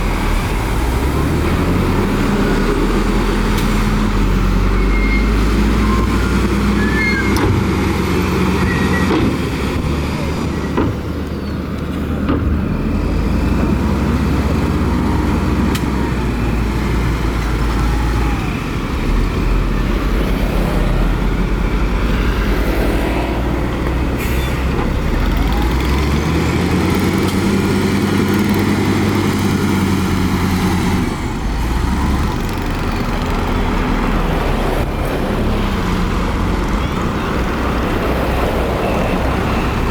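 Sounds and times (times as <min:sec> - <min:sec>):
diesel earthmoving machinery revving: 0:00.0 - 0:39.9.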